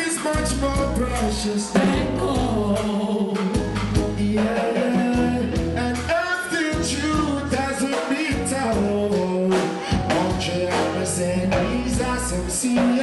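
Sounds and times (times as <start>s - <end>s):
man singing: 0.0s - 13.0s
reggae band playing: 0.0s - 13.0s.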